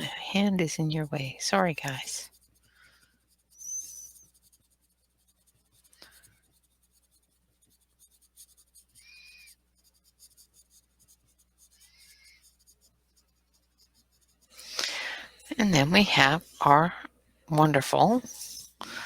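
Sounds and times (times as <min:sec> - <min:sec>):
pencil scratching on paper: 0:00.1 - 0:16.8, 0:17.9 - 0:18.8.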